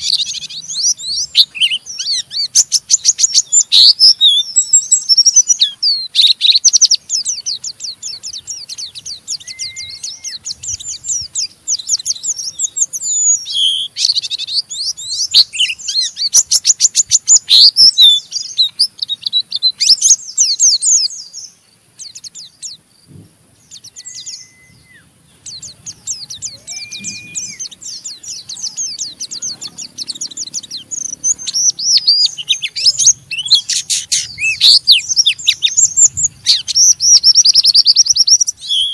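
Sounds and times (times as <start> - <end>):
bird singing fast chattering song: 0.0 - 38.9
low whistled bird notes: 0.0 - 38.9.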